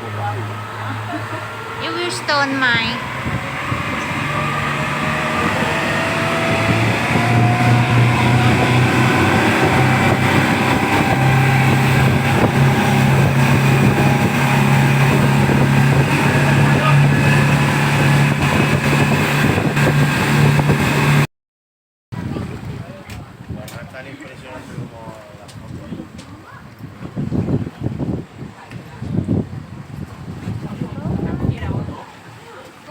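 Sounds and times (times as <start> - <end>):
motorboat engine running: 0.0 - 21.3, 22.2 - 32.9
wind and water rushing: 0.0 - 21.3, 22.2 - 32.9.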